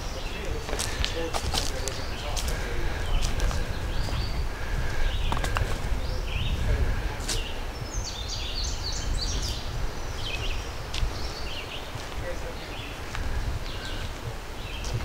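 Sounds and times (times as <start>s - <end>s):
songbirds chirping: 0.0s - 15.0s
steady low rumble: 0.0s - 15.0s.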